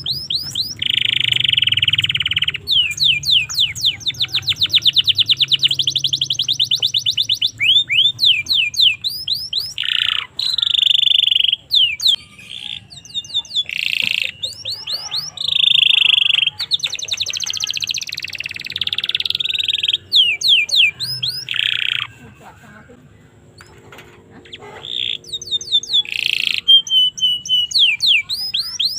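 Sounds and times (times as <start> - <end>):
canary singing: 0.0 - 28.9.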